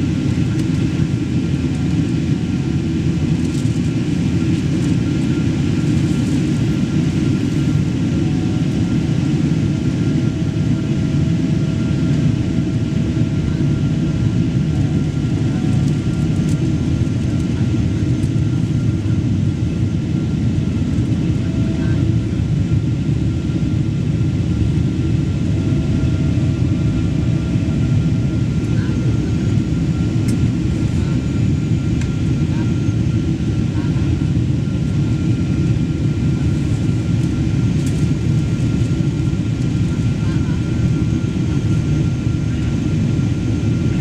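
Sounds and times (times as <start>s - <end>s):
jet engine and airflow roar: 0.0s - 44.0s.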